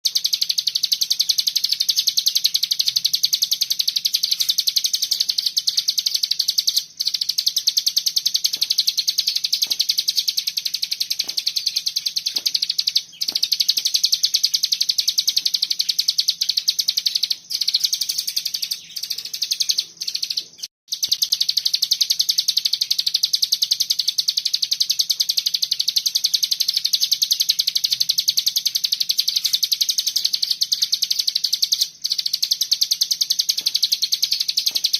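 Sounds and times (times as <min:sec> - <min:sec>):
bird giving high-pitched trill: 0:00.0 - 0:34.9.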